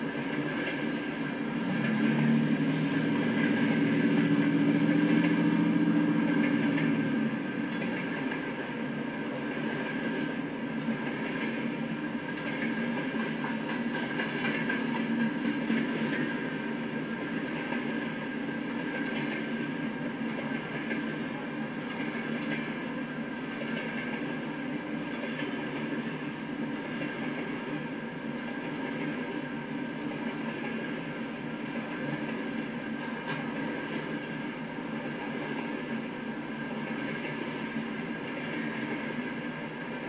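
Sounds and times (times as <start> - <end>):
freight train wheels on rail: 0.0 - 40.0.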